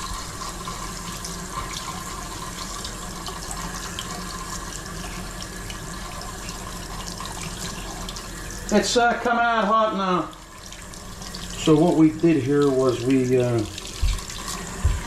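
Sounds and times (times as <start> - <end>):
faucet running water: 0.0 - 15.0.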